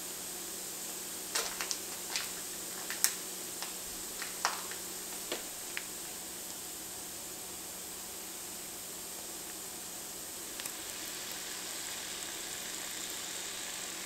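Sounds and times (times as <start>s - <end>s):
onion and garlic sizzling in pan: 0.1s - 14.0s.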